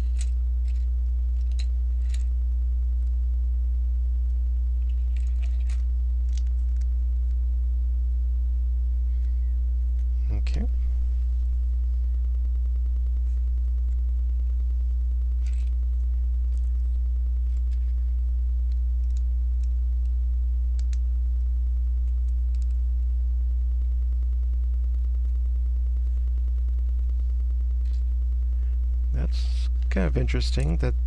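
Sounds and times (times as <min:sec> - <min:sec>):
loud low electrical hum: 0:00.0 - 0:31.0.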